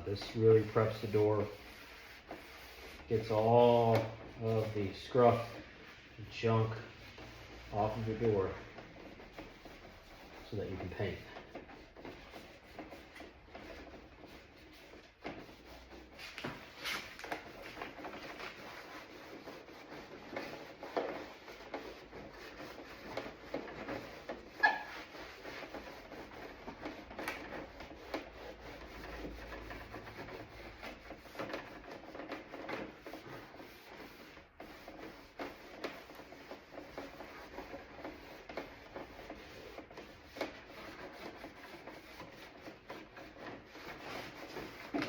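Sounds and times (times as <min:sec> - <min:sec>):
scrubbing a door panel: 0:00.0 - 0:45.0.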